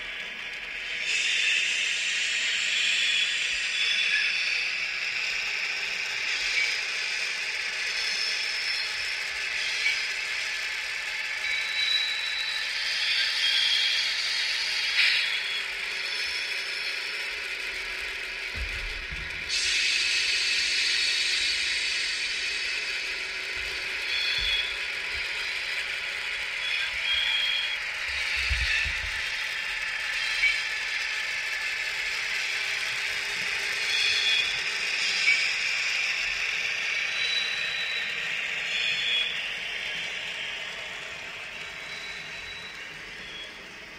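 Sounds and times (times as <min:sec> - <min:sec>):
model train wheels clicking: 0:00.0 - 0:43.9.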